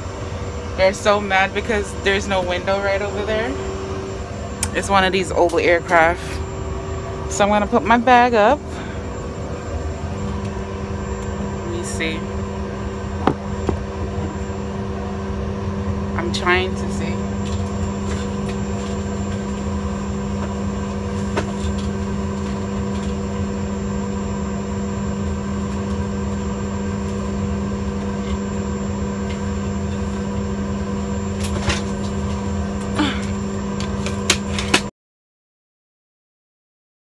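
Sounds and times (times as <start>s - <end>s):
airliner cabin hum: 0.0s - 34.9s.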